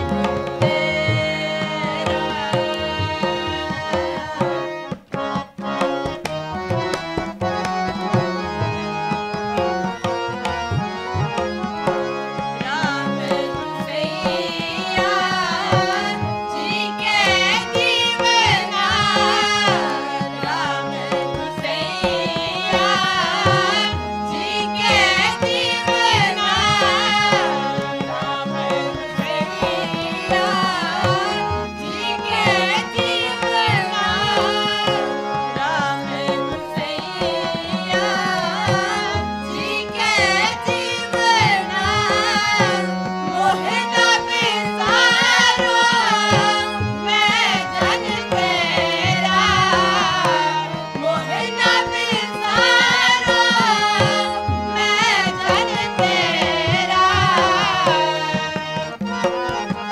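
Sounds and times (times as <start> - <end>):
voices singing a chant: 0.0 - 4.9, 12.5 - 59.9
harmonium chords: 0.0 - 59.9
tabla beat: 0.0 - 59.9.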